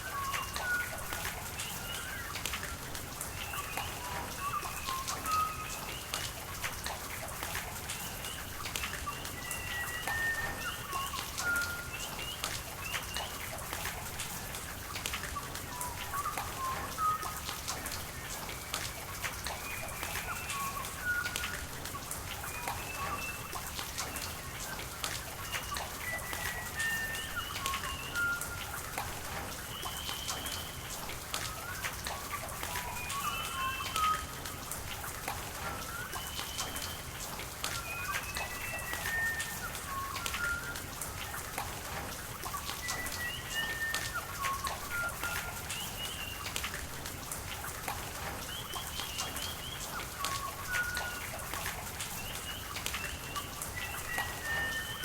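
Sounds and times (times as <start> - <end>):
rain falling: 0.0 - 55.0
running water hiss: 0.0 - 55.0.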